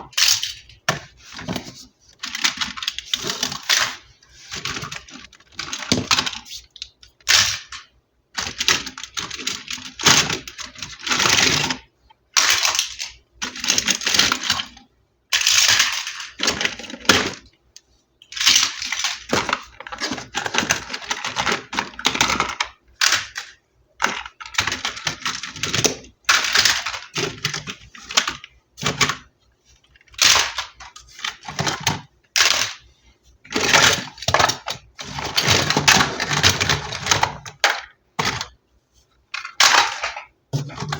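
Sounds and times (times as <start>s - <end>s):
crinkling and clicking plastic: 0.0s - 40.9s.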